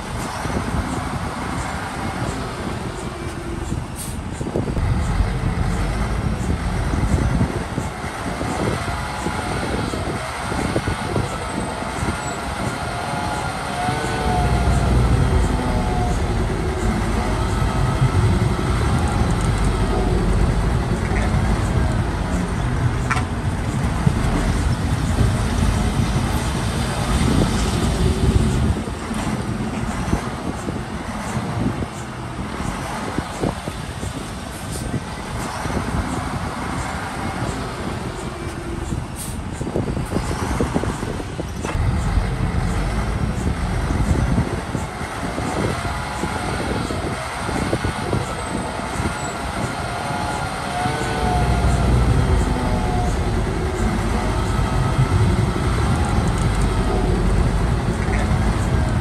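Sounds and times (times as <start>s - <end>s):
bulldozer engine running: 0.0s - 59.0s.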